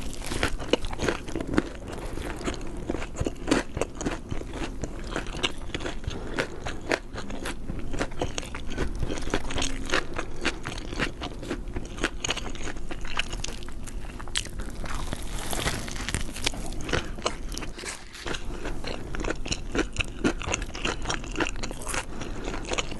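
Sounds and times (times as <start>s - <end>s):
chewing: 0.0s - 22.9s
crunchy biting: 0.0s - 22.9s.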